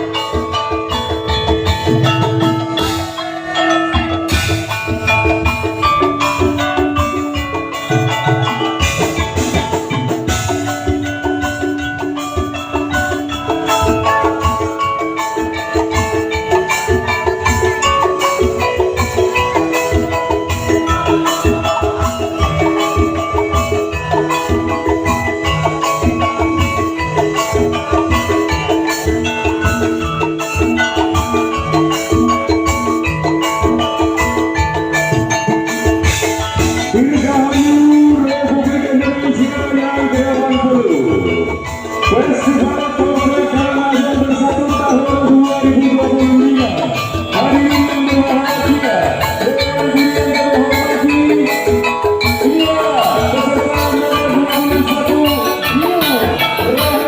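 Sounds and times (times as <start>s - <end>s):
tuned bamboo percussion melody: 0.0s - 57.0s.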